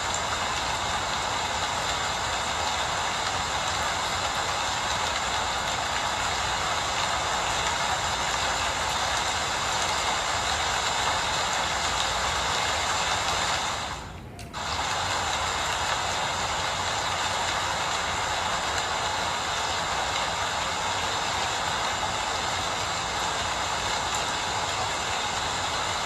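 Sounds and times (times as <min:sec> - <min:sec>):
dense rainfall: 0:00.0 - 0:26.0.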